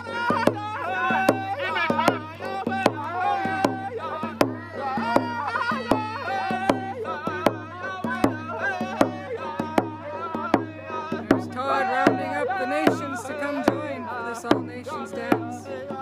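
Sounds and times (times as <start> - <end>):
hand drum beating: 0.0 - 16.0
voices singing high melody: 0.0 - 16.0.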